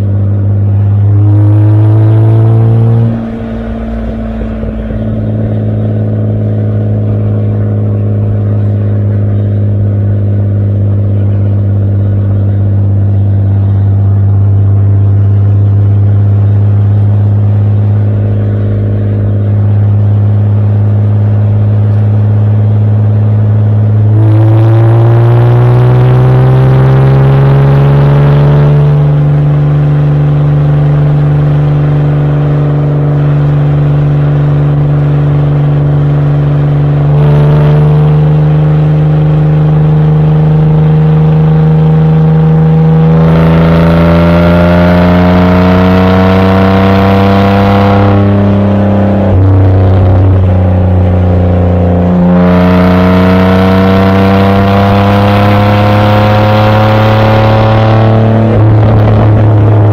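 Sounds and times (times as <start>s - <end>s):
car exhaust accelerating: 0.0s - 59.9s.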